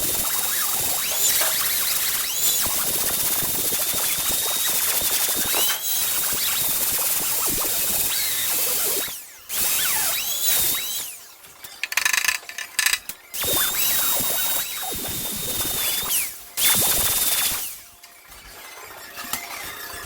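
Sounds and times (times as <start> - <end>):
rotary power tool whining: 0.0 - 18.0.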